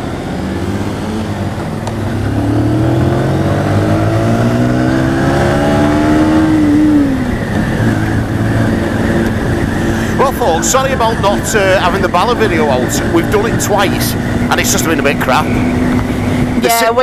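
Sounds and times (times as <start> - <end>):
motorcycle engine accelerating: 0.0 - 16.7
wind noise: 1.3 - 17.0.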